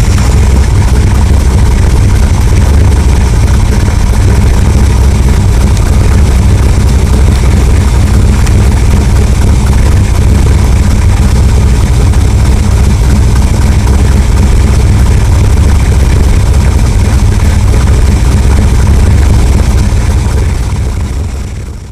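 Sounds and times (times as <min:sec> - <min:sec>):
loud engine running steadily: 0:00.0 - 0:21.9.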